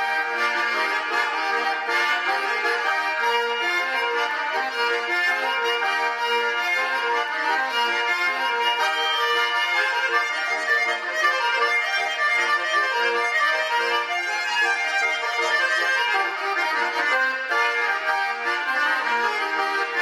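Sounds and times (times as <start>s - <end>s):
button accordion dance tune: 0.0s - 20.0s.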